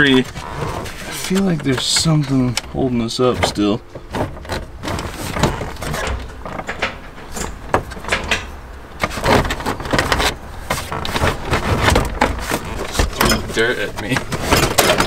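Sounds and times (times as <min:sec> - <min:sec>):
plastic trim knocking and scraping: 0:00.2 - 0:15.0.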